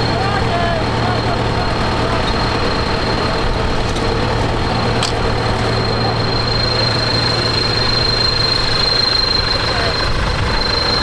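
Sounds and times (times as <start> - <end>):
high-pitched whine: 0.0 - 11.0
tractor diesel engine running: 0.0 - 11.0.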